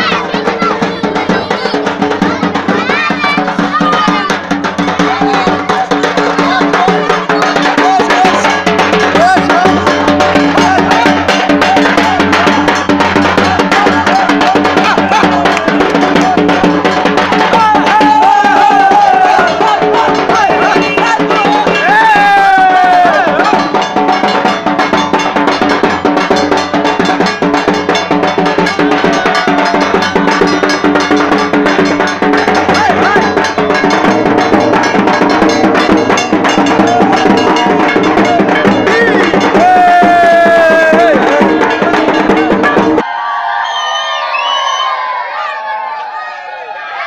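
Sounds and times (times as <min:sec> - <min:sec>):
loud dance music: 0:00.0 - 0:25.2, 0:28.4 - 0:43.1.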